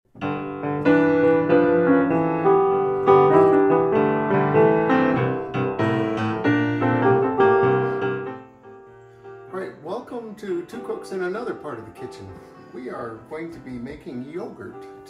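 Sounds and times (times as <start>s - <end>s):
piano music: 0.1s - 15.0s.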